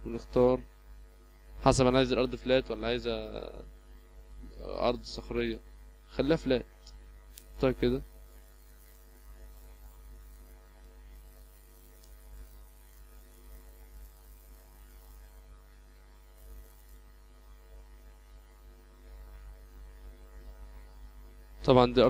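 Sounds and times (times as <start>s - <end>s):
background hiss: 0.0s - 22.0s
electrical mains hum: 0.0s - 22.0s.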